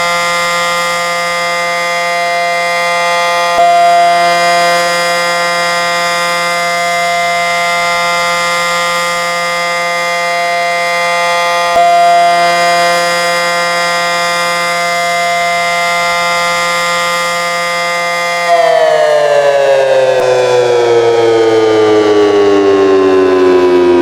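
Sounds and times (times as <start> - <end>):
outdoor warning siren steady tone: 0.0 - 24.0.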